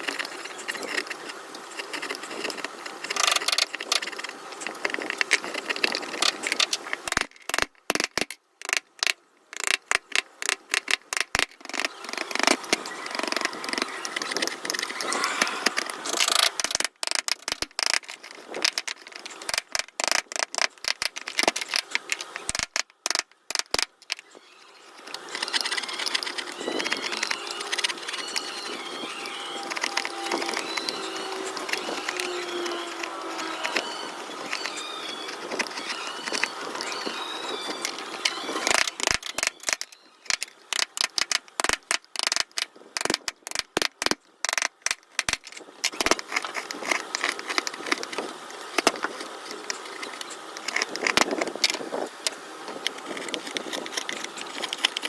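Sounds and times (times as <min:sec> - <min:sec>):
chisel scraping wood: 0:00.0 - 0:07.2, 0:08.1 - 0:55.0.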